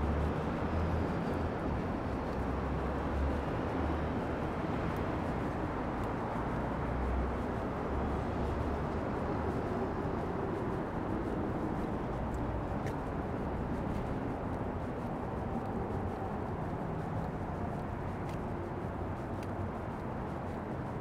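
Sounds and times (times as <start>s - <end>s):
traffic drone: 0.0s - 21.0s.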